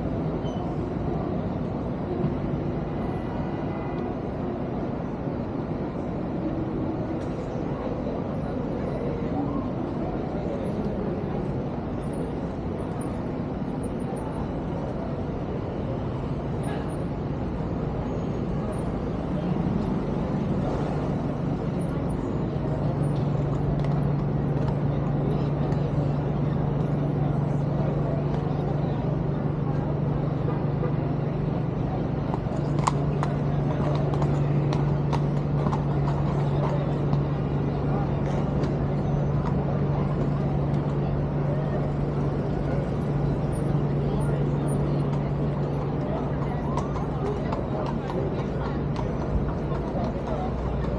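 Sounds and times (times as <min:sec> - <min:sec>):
city traffic rumble: 0:00.0 - 0:50.9.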